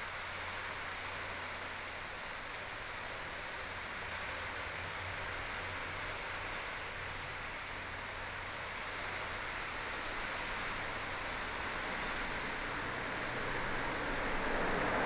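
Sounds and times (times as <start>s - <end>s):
floodwater rushing past bridge pier: 0.0s - 15.0s.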